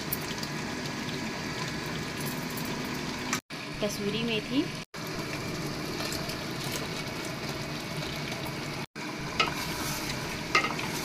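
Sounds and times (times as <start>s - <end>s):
curry sizzling in oil: 0.0s - 11.0s.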